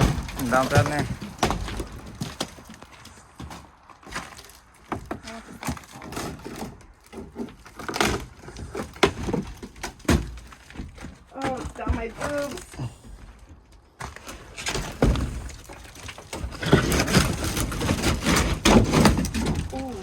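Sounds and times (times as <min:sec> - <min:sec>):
wooden boards clattering: 0:00.0 - 0:20.0.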